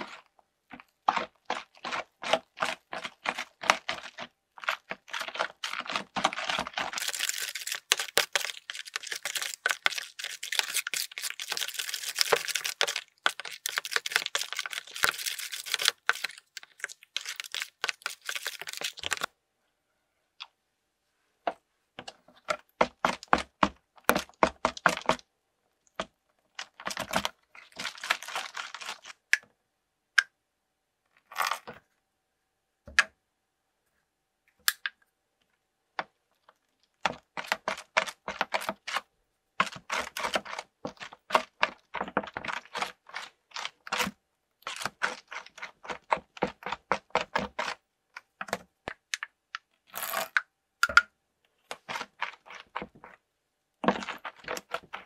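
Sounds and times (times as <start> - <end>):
spatula stirring slime squelching: 0.0 - 19.3, 21.4 - 29.4, 35.3 - 55.0.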